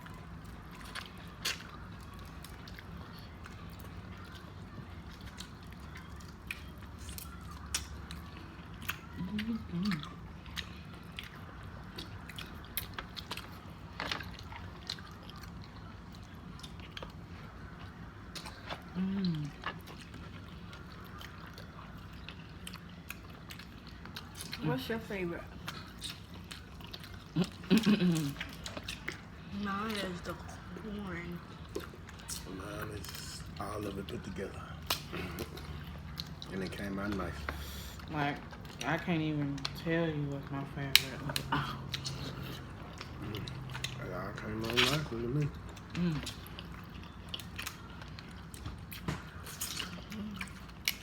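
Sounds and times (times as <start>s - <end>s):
wet chewing and squishing: 0.0s - 51.0s.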